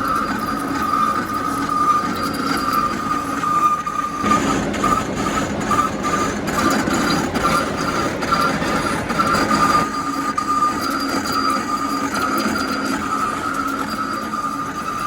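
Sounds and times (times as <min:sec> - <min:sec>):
metal lathe whining and humming: 0:00.0 - 0:15.0
tool cutting metal: 0:00.0 - 0:15.0.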